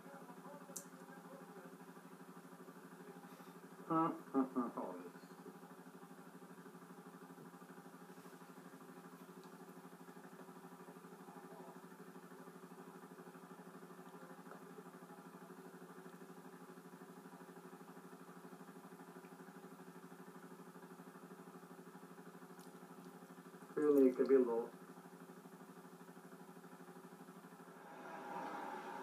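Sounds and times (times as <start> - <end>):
faint fluttering motor hum: 0.0 - 29.0.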